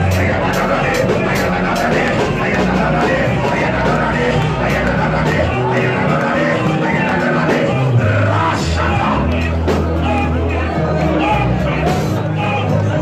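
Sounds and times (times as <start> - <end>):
bass line: 0.0 - 13.0
church band playing: 0.0 - 13.0.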